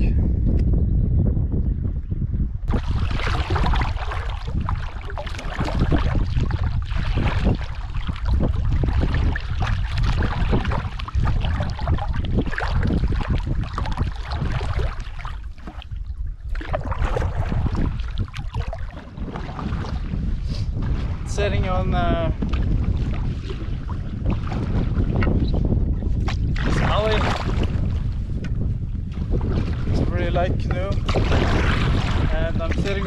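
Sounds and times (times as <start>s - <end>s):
wind buffeting microphone: 0.0s - 33.0s
choppy water splashing: 2.6s - 33.0s.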